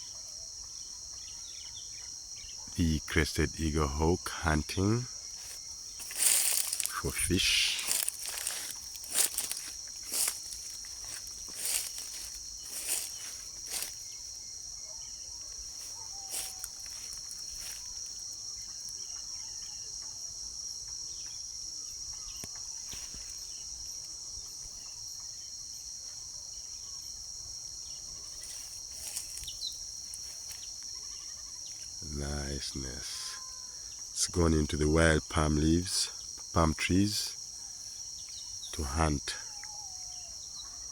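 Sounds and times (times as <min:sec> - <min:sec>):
crickets shrilling: 0:01.5 - 0:40.9.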